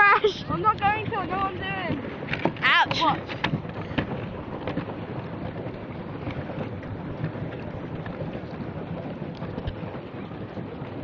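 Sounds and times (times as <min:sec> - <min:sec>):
paddle wheel churning water: 0:00.0 - 0:11.0
wind buffeting microphone: 0:00.0 - 0:11.0.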